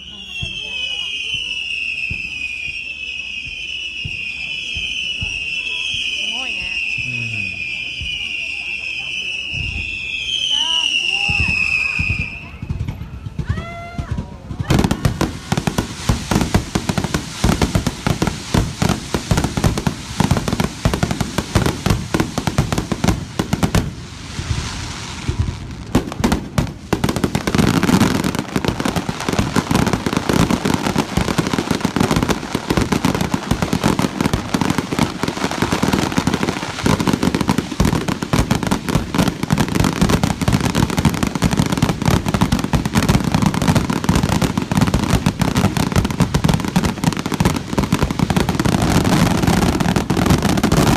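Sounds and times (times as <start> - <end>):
fireworks bursting in barrage: 0.0 - 50.9
fireworks crackle: 0.0 - 50.9.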